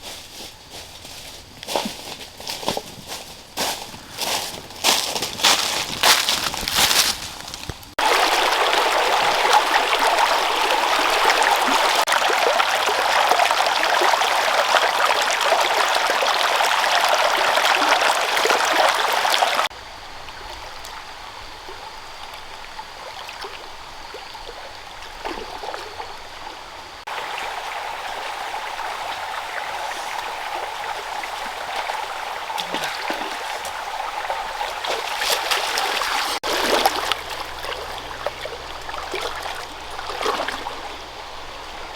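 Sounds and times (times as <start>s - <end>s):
running water flowing: 3.7s - 41.9s.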